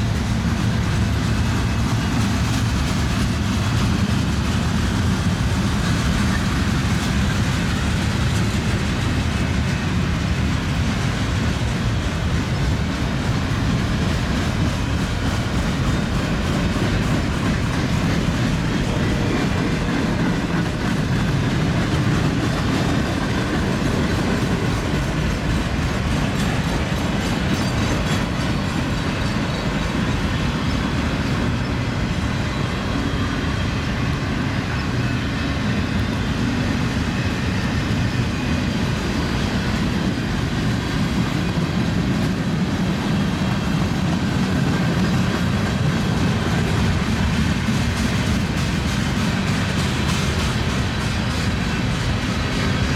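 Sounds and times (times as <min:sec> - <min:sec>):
train wheels rolling on rails: 0:00.0 - 0:52.9.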